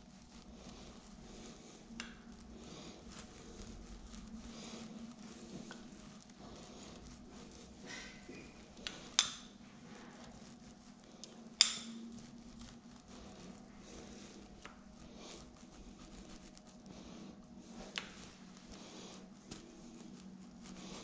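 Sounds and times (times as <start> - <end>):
faint handling ticks: 0.0 - 21.0
steady low hum: 0.0 - 21.0.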